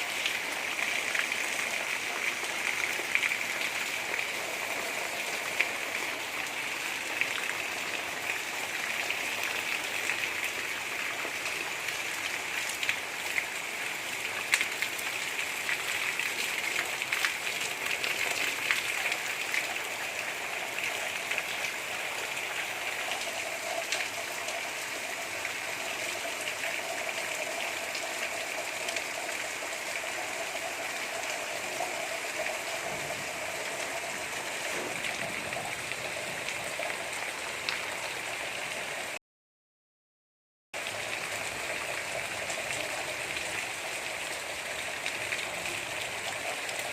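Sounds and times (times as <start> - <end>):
gentle rain hissing: 0.0 - 39.2.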